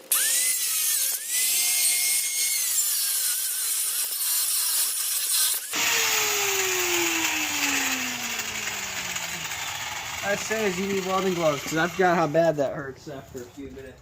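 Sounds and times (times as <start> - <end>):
grinder wheel spinning down: 0.0 - 12.6
angle grinder cutting metal: 0.0 - 12.7.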